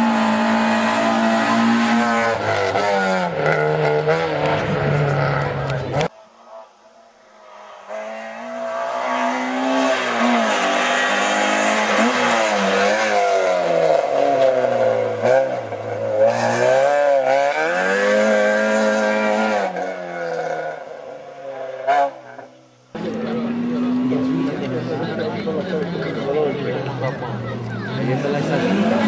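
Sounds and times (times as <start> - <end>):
race car engine revving: 0.0 - 6.1, 7.3 - 29.0.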